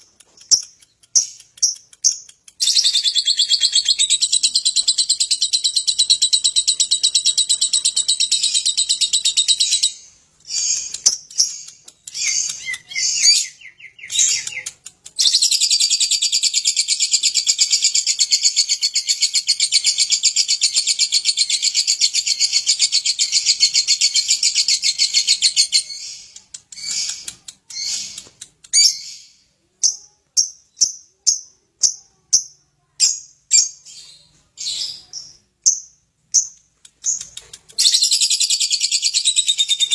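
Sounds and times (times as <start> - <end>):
lovebird trilling and chirping: 0.3 - 39.9.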